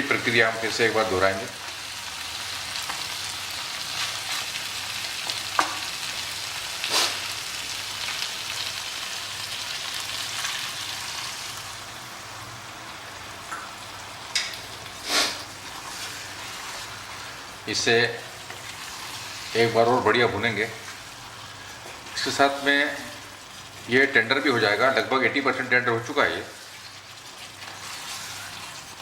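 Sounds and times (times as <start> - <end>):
meat sizzling in a pan: 0.0 - 29.0.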